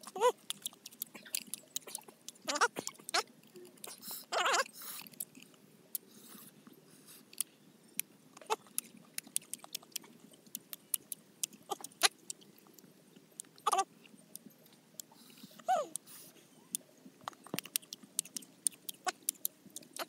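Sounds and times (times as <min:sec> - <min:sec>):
crunchy chewing: 0:00.0 - 0:20.0
mouth clicks: 0:00.1 - 0:06.1, 0:07.3 - 0:20.0.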